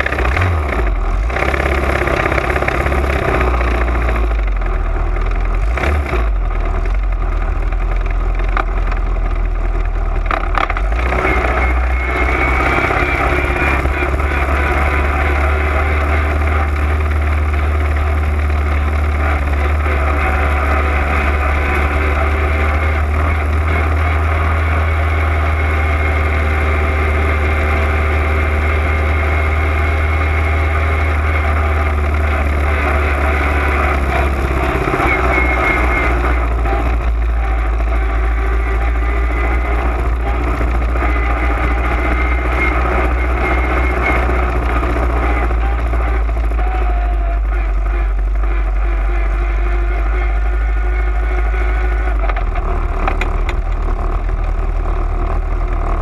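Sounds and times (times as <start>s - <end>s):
race car engine running at low revs: 0.0s - 56.0s.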